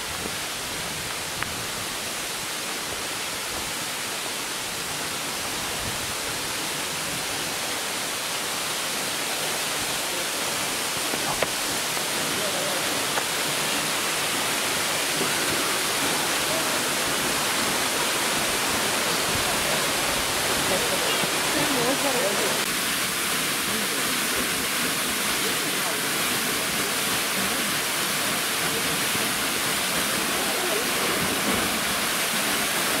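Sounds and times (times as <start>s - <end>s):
fast-flowing water rushing: 0.0s - 33.0s.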